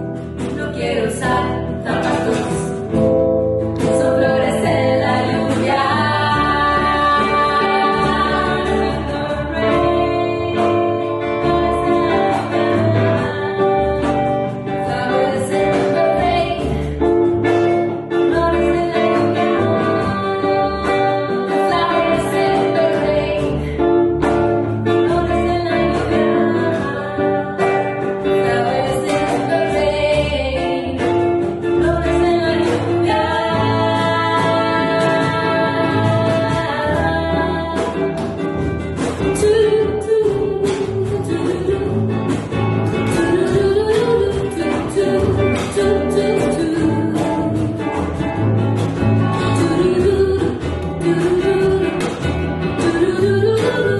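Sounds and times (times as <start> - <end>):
acoustic guitar: 0.0 - 53.9
double bass: 0.0 - 53.9
hand percussion beat: 0.0 - 53.9
women singing in harmony: 0.6 - 3.0, 3.8 - 17.0, 18.0 - 23.9, 24.6 - 38.3, 39.4 - 42.2, 43.1 - 47.8, 49.4 - 53.9.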